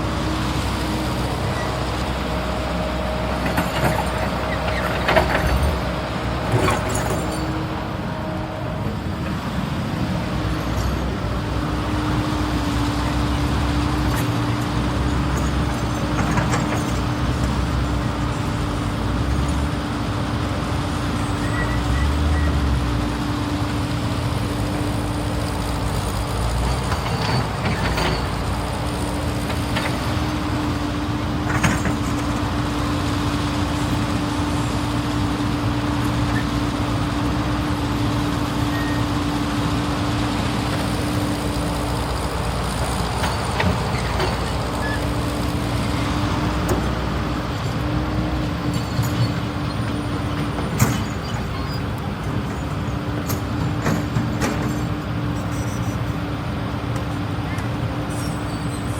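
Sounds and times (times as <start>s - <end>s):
excavator engine rumble: 0.0s - 58.9s.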